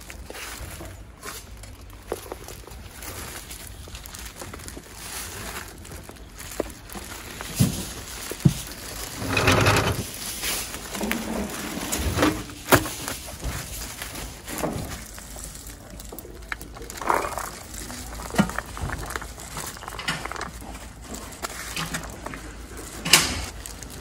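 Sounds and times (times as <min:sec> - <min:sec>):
plastic rustling and crinkling: 0:00.0 - 0:24.0.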